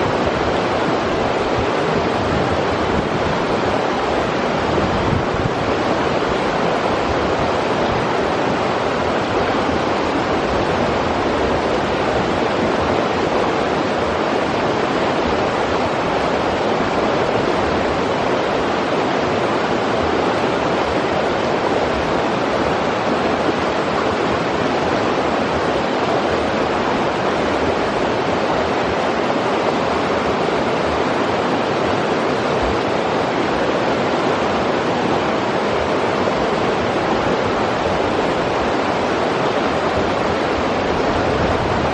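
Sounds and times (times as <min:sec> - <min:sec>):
river water rushing over rocks: 0:00.0 - 0:41.9.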